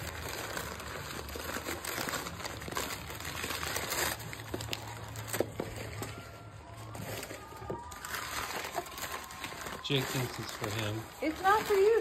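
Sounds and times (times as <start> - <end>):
packing paper crinkling: 0.0 - 12.0.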